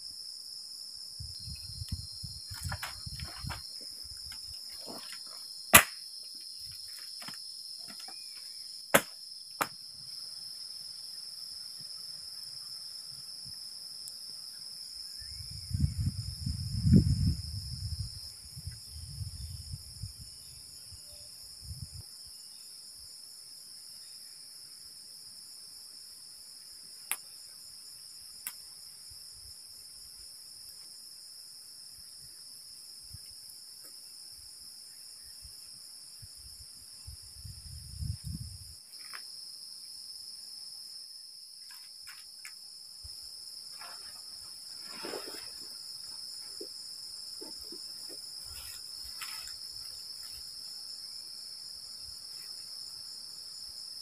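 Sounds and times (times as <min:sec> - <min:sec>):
night insects chirring: 0:00.0 - 0:54.0.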